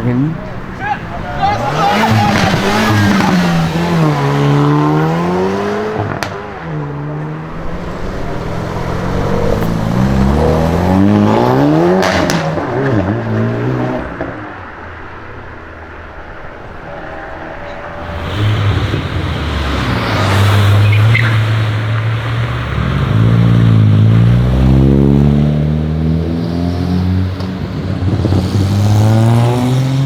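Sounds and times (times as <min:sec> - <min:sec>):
exhaust crack: 0:00.0 - 0:25.4
car engine accelerating through gears: 0:00.4 - 0:14.8, 0:16.6 - 0:30.0.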